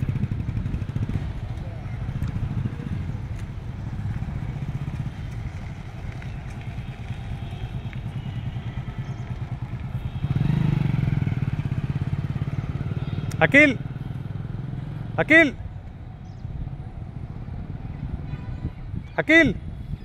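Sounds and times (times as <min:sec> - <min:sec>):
motorcycle engine idling: 0:00.0 - 0:18.4.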